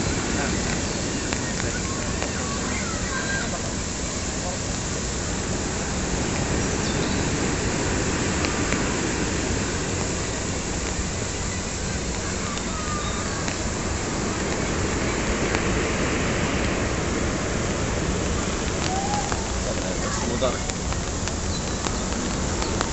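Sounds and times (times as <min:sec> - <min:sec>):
distant surf breaking: 0:00.0 - 0:22.9
wind buffeting microphone: 0:00.0 - 0:22.9.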